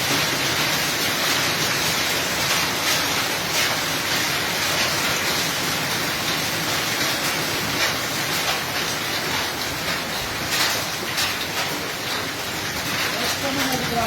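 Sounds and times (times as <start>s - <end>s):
heavy rain and hail: 0.0s - 14.0s.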